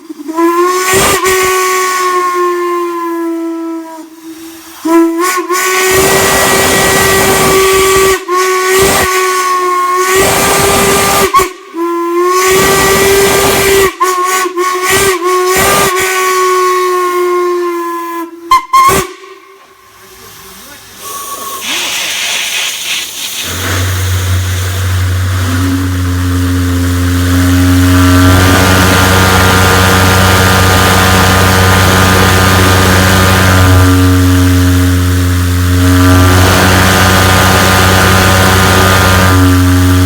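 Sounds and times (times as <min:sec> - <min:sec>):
steam whistle blowing: 0:00.0 - 0:20.4, 0:21.0 - 0:40.0
steam hissing: 0:04.1 - 0:16.4, 0:18.9 - 0:40.0.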